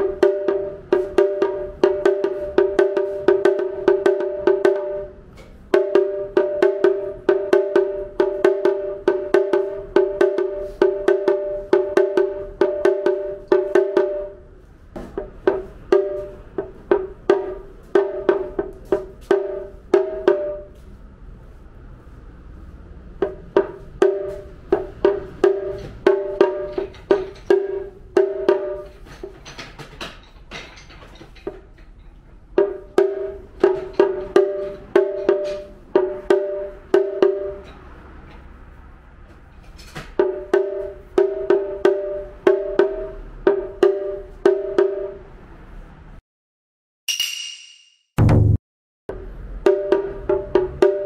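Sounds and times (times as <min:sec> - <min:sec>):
drum struck with wooden sticks: 0:00.0 - 0:20.8, 0:23.2 - 0:31.6, 0:32.5 - 0:38.4, 0:40.0 - 0:45.2, 0:48.2 - 0:51.0.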